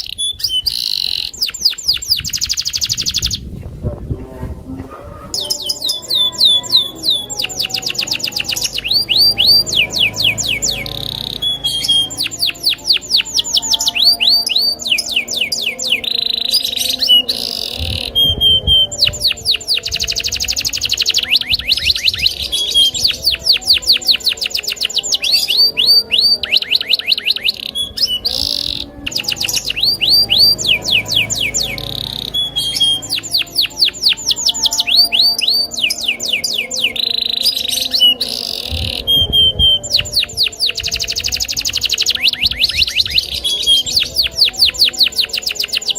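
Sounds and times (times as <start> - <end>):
canary singing trills: 0.0 - 3.6, 4.7 - 45.9.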